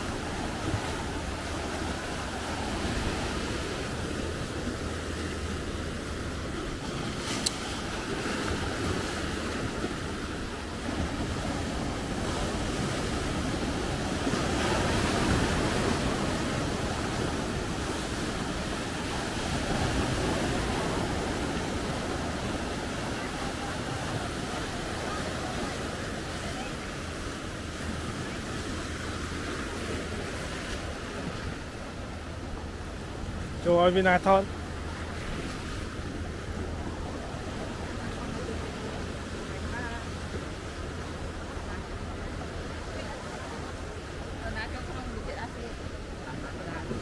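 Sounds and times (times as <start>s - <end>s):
surf breaking over rocks: 0.0s - 47.0s.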